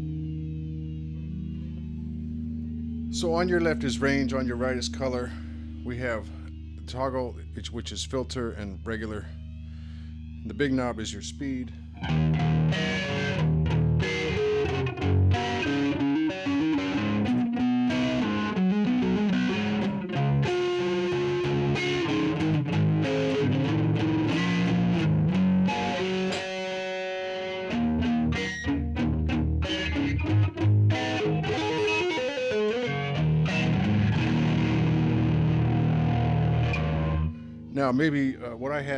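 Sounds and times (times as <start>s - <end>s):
electric guitar with flanger: 0.0s - 38.7s.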